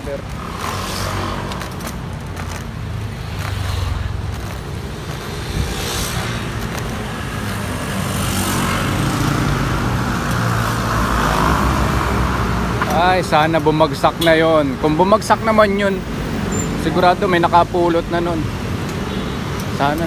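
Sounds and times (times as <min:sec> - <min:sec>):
scooter and car engines passing: 0:00.0 - 0:20.0.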